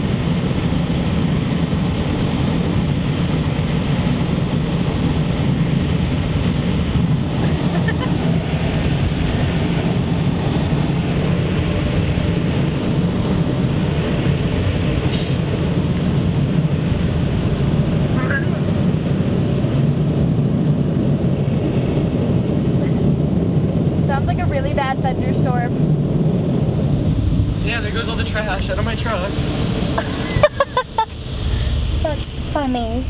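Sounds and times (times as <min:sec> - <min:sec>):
car wash dryer blowers: 0:00.0 - 0:33.0.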